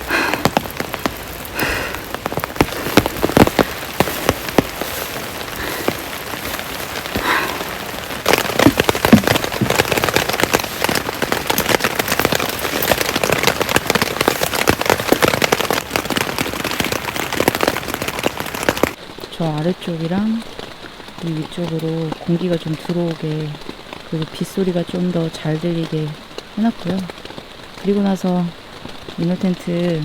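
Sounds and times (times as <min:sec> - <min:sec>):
rain drops striking a tent: 0:00.0 - 0:30.0.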